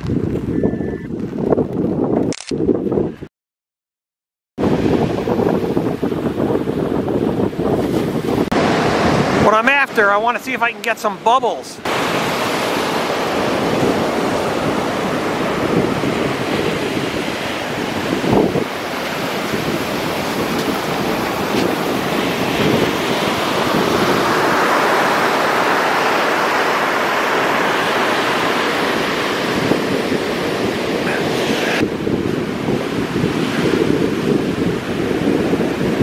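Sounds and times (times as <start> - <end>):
wind buffeting microphone: 0.0 - 3.3, 4.6 - 10.2, 11.8 - 36.0
surf washing over sand: 4.6 - 36.0.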